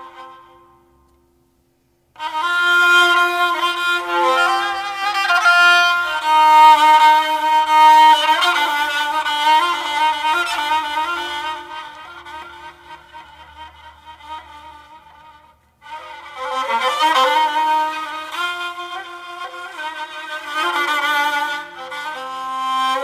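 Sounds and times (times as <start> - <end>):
bowed fiddle melody: 0.0 - 1.1, 2.2 - 23.0.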